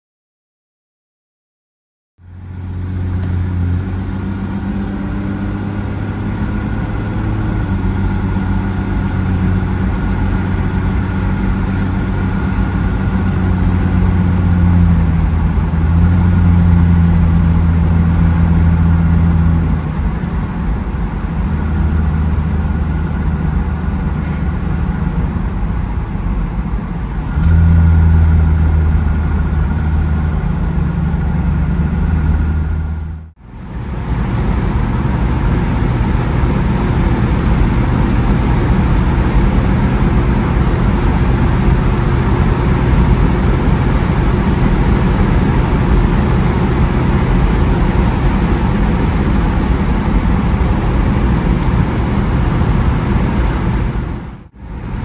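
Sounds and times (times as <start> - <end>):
car engine drone: 2.2 - 55.0
road noise: 2.2 - 55.0.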